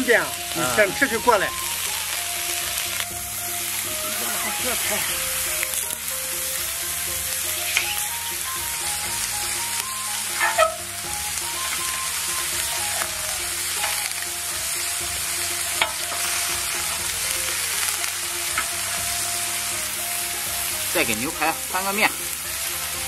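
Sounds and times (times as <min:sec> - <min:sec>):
seafood sizzling on hot plate: 0:00.0 - 0:23.0.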